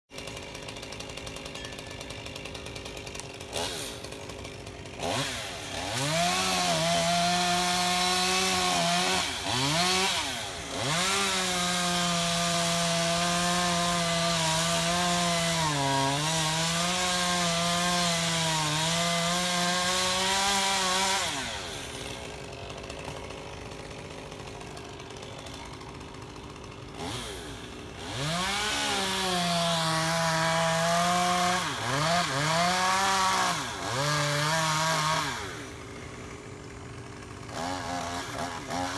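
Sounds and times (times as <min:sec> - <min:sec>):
chainsaw cutting wood: 0:00.1 - 0:38.9.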